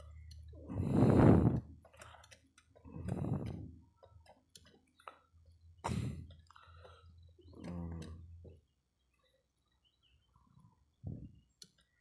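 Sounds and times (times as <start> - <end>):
grease pump clicking: 0.0 - 10.0.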